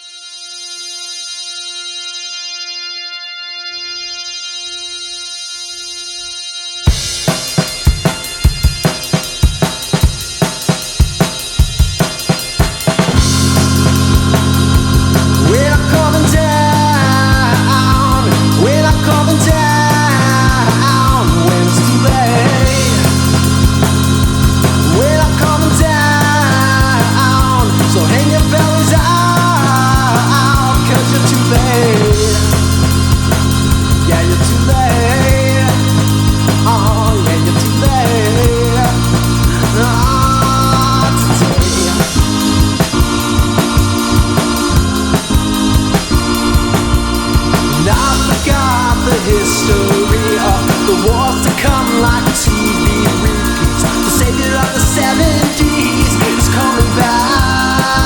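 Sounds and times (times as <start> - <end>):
psychedelic rock music: 6.3 - 58.0
drum beat: 6.9 - 58.0.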